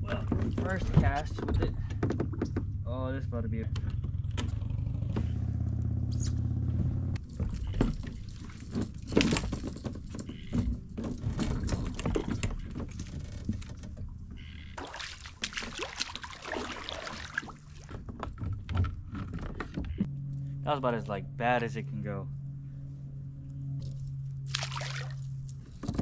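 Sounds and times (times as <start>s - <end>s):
knocks clunks and clatter: 0.0s - 20.5s, 25.4s - 26.0s
small boat motor running: 0.0s - 26.0s.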